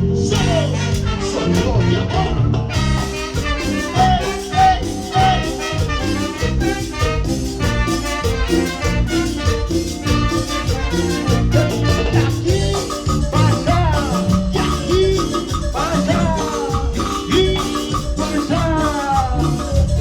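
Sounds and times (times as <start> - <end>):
sliding lead melody: 0.0 - 20.0
live band dance beat: 0.3 - 20.0
shaken percussion: 0.3 - 20.0.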